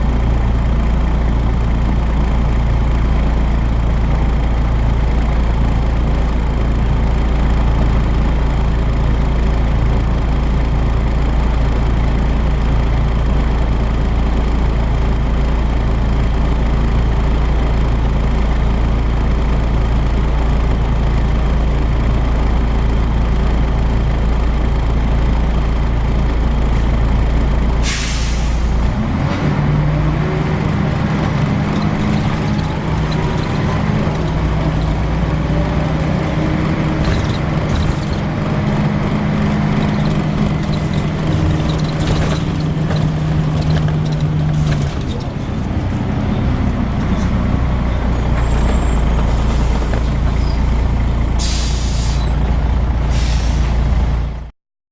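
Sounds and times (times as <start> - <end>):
diesel bus engine idling: 0.0 - 54.5.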